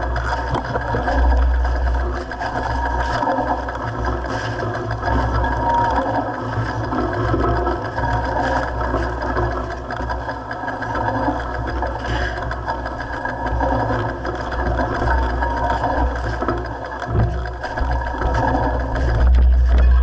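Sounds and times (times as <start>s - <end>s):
bike chain and frame rattling: 0.0s - 20.0s.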